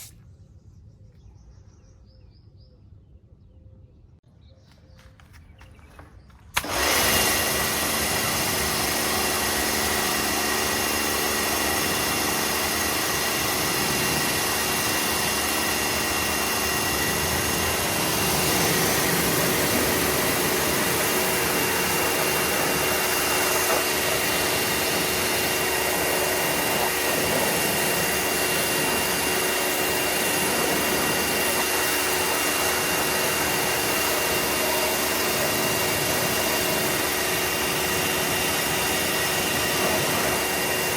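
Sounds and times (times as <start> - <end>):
pressure washer spraying: 6.6 - 40.9.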